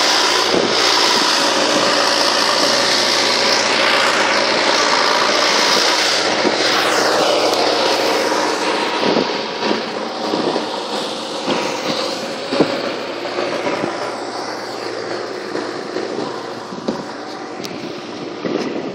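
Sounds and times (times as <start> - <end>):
diesel machinery humming: 0.0 - 18.9
high whine falling in pitch: 0.0 - 18.9.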